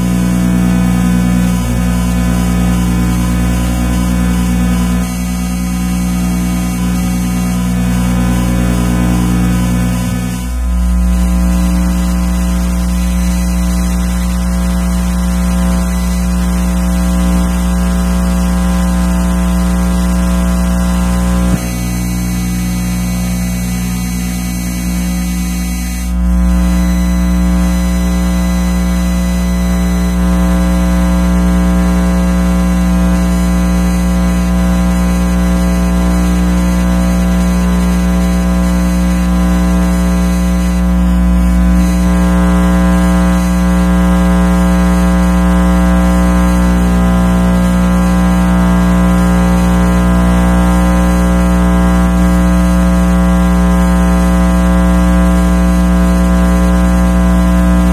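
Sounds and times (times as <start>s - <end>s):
electrical interference buzz: 0.0s - 57.9s.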